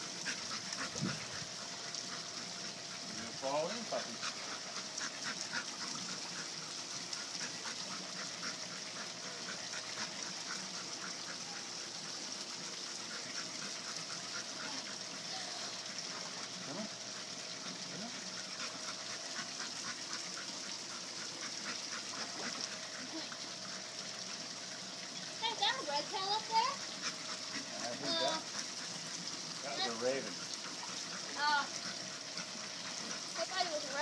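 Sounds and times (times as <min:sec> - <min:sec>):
dog panting: 0:00.1 - 0:12.2, 0:12.8 - 0:15.2, 0:16.1 - 0:24.4, 0:25.7 - 0:34.0.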